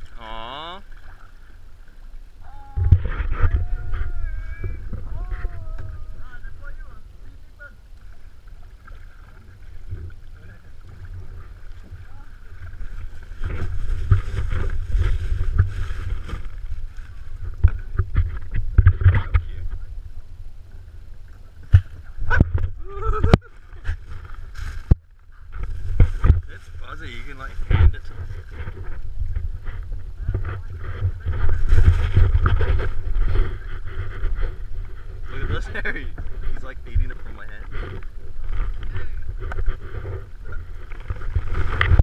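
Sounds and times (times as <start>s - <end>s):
paddle splashing water: 0.0s - 42.0s
rustle: 0.0s - 42.0s
wind rumbling on microphone: 0.0s - 42.0s.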